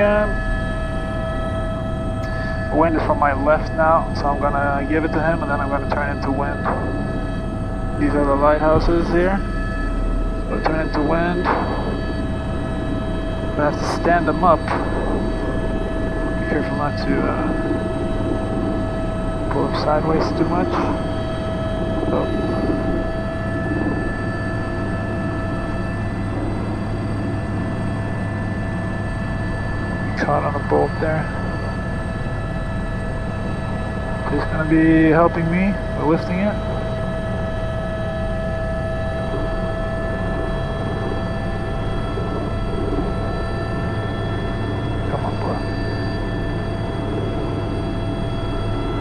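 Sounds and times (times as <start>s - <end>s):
helicopter rotor rumble: 0.0s - 49.0s
helicopter turbine whine: 0.0s - 49.0s.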